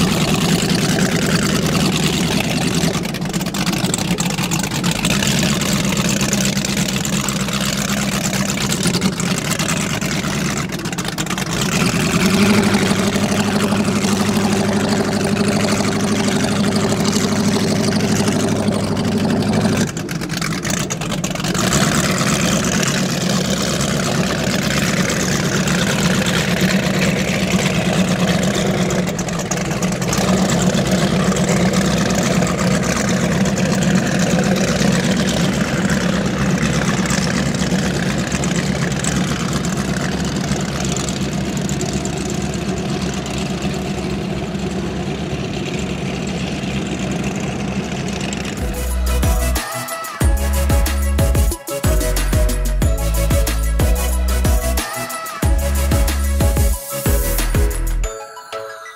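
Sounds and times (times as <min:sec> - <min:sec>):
powerboat engines running: 0:00.0 - 0:58.0.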